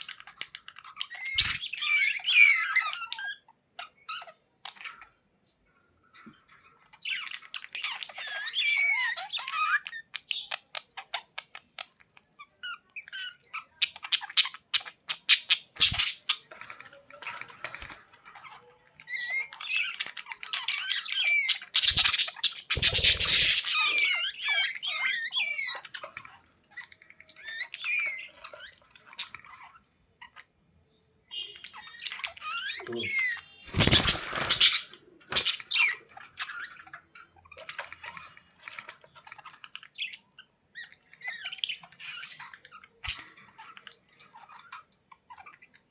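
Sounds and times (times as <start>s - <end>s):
budgerigars chattering and warbling: 0.0s - 5.2s, 6.8s - 30.6s, 31.3s - 45.9s.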